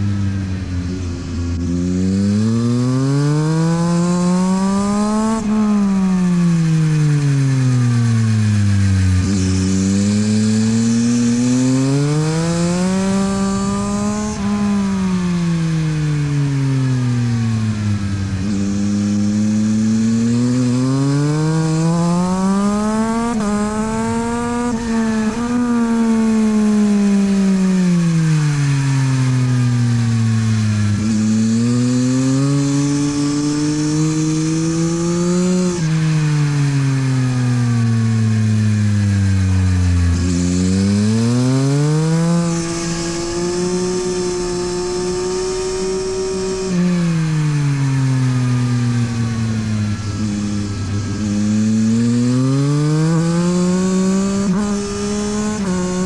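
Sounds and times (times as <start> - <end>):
motorcycle engine revving at speed: 0.0 - 56.0.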